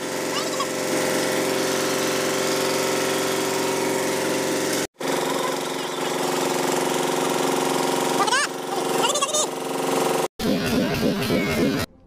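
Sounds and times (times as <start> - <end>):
generator engine running: 0.0 - 11.9.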